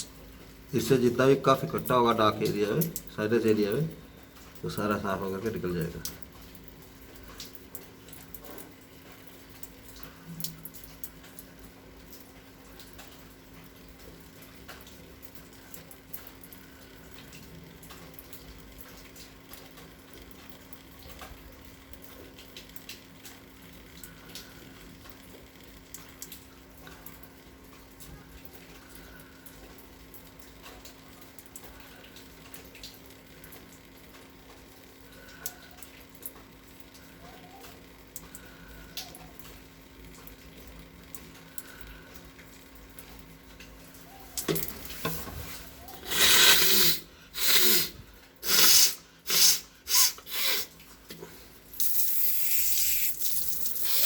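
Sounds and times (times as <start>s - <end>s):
water trickling and dripping: 0.0s - 46.1s, 50.7s - 54.0s.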